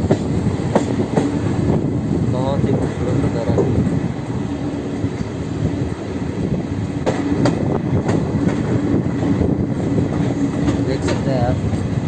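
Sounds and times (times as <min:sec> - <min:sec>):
passenger train rumbling: 0:00.0 - 0:12.0
train hum: 0:00.0 - 0:12.0.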